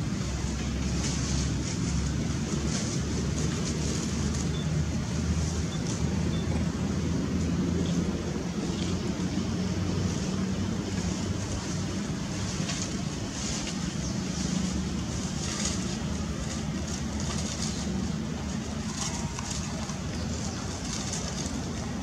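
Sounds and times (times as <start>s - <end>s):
dry leaves rustling: 0.0s - 22.0s.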